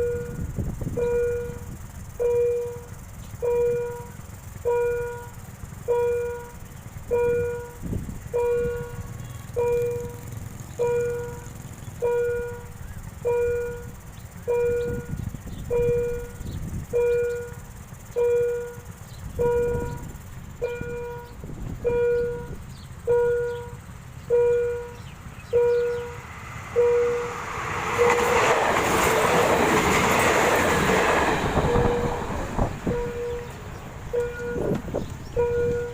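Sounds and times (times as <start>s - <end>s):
diesel train passing: 0.0s - 35.9s
level crossing warning bell: 0.0s - 35.9s.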